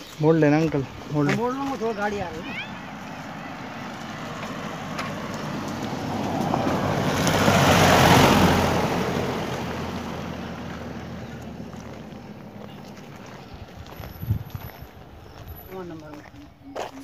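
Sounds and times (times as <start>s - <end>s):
tyre noise on road: 0.0s - 17.0s
vehicle engine passing by: 1.4s - 15.9s.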